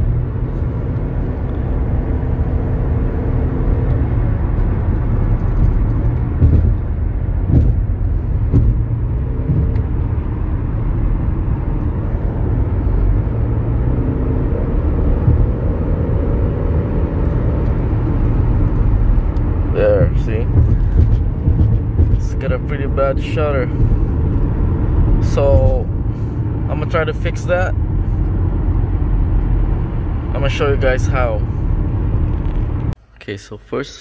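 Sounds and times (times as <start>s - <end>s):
engine hum: 0.0s - 34.0s
road and tyre rumble: 0.0s - 34.0s.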